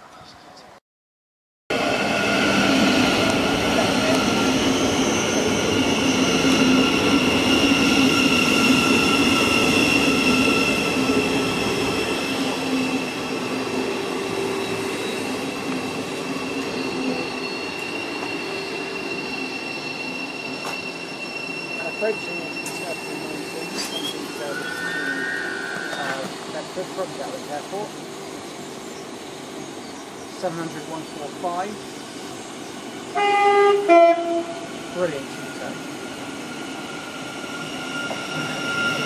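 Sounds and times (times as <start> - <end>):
train high electric whine: 1.7 - 39.0
train wheels rumbling: 1.7 - 39.0.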